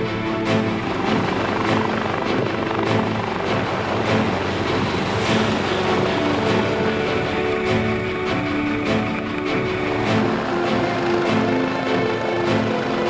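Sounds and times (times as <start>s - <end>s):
helicopter rotor and engines: 0.0s - 13.0s.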